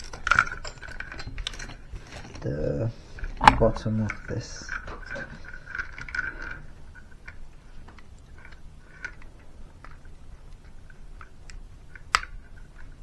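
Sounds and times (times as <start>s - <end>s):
plastic parts clicking and scraping: 0.0s - 13.0s.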